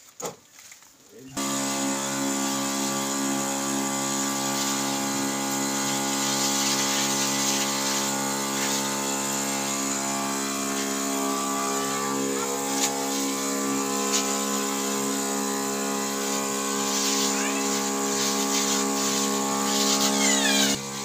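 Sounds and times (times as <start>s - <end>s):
liquid spraying hiss: 1.4s - 21.0s
sprayer pump whining: 1.4s - 21.0s.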